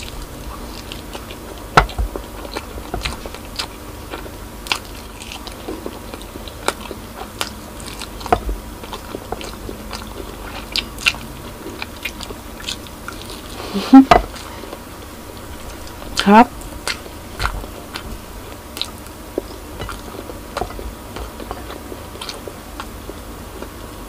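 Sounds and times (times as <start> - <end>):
chewing and lip smacking: 0.0 - 23.8.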